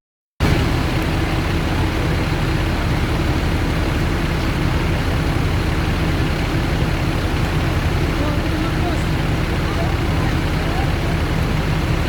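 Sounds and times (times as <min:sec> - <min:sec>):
bus engine running: 0:00.4 - 0:12.0
road noise: 0:00.4 - 0:12.0.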